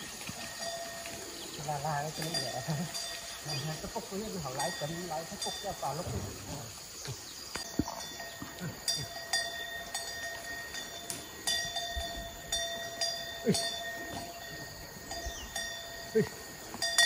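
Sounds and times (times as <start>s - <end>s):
metal livestock bell clanking: 0.0s - 6.2s, 7.9s - 17.0s.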